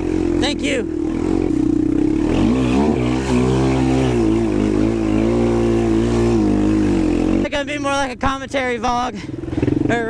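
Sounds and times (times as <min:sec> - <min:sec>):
quad engine revving: 0:00.0 - 0:10.0.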